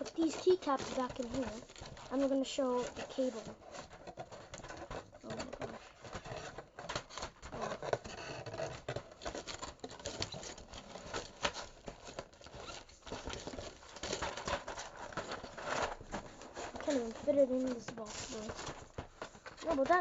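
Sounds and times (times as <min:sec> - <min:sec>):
plastic packaging rustling: 0:00.0 - 0:20.0.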